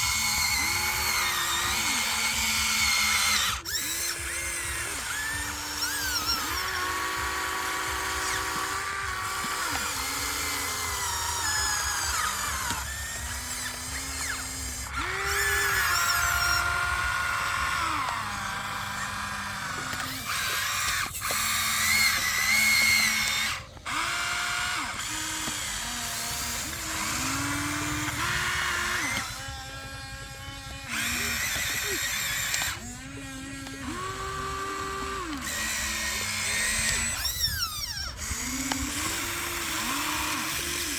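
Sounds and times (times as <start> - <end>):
toy motors whining: 0.0 - 40.9.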